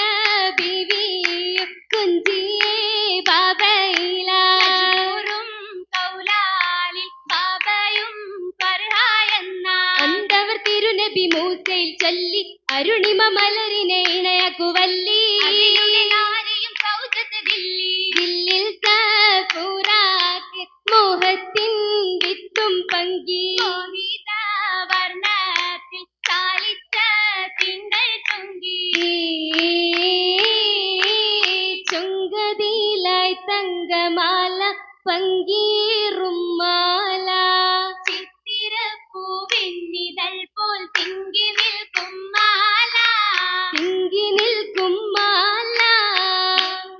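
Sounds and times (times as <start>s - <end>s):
rhythmic hand claps: 0.0s - 32.7s, 37.9s - 46.9s
girls singing: 0.0s - 46.9s.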